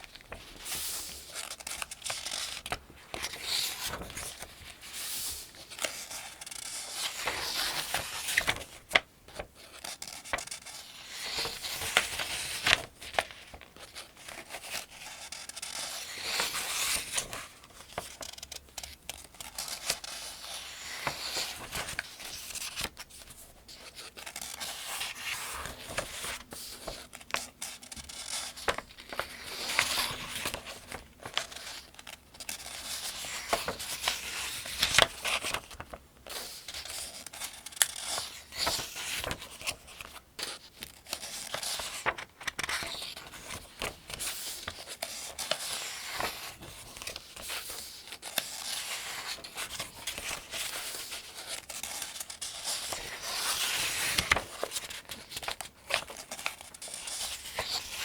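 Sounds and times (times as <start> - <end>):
pages turning: 0.0 - 58.0.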